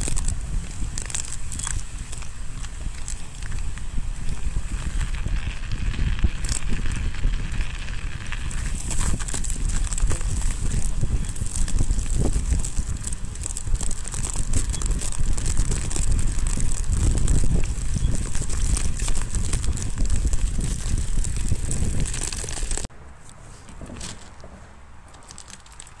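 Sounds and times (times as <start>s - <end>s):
bike rumble and rattle: 0.0s - 26.0s
crunching clicks of frozen snow: 0.0s - 26.0s.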